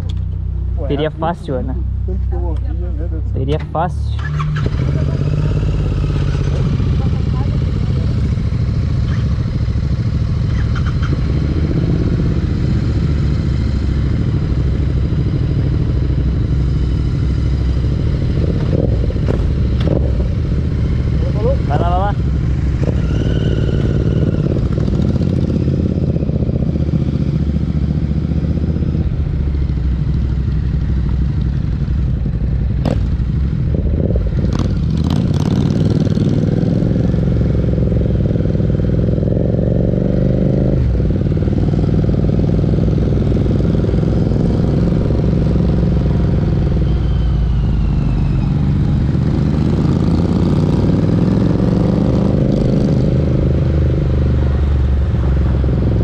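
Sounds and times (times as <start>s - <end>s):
motorcycle engines accelerating: 0.0s - 56.0s.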